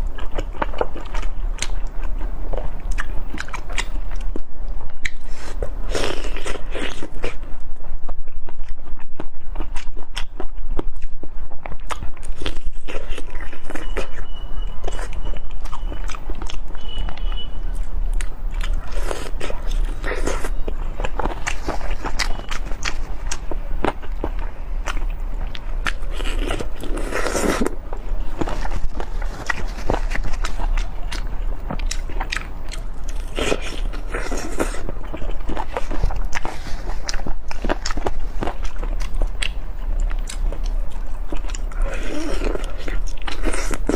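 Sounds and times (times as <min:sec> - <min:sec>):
chewing and biting food: 0:00.0 - 0:43.9.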